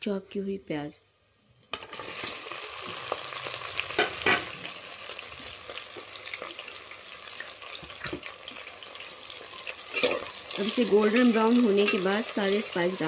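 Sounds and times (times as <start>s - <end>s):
onions sizzling in hot oil: 1.7s - 13.0s.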